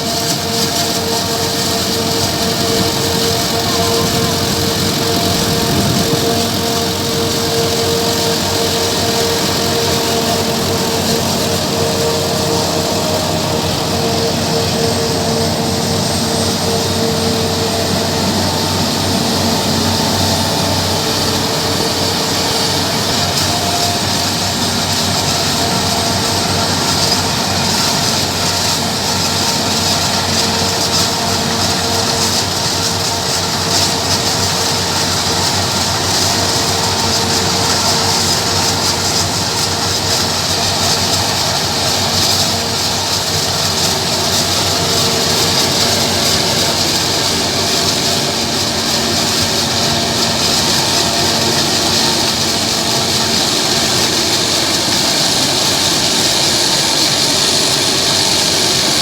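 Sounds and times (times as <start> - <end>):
harvester machine drone: 0.0 - 59.0
loud hiss: 0.0 - 59.0.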